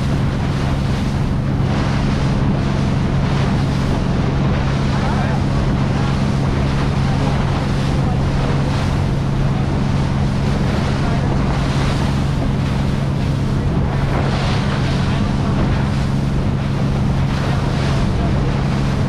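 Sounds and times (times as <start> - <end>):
boat engine droning: 0.0 - 19.0
water rushing along hull: 0.0 - 19.0
wind buffeting microphone: 0.0 - 19.0.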